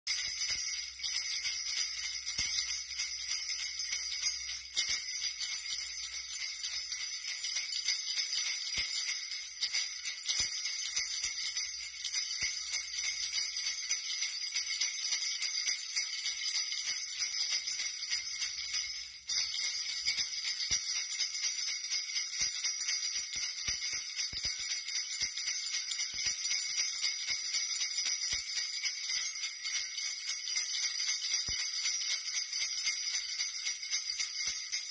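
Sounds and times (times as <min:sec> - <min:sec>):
sleigh bells jingling: 0:00.0 - 0:34.9.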